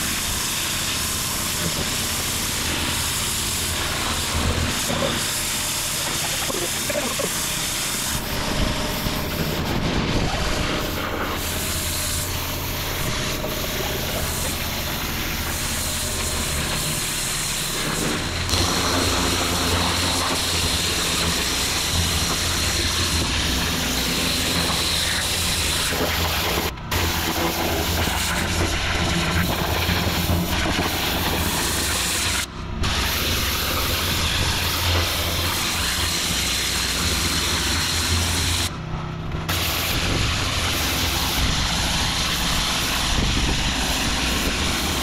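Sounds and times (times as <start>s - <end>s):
pressure washer spray hissing: 0.0s - 38.7s, 39.5s - 45.0s
machine droning: 0.0s - 45.0s.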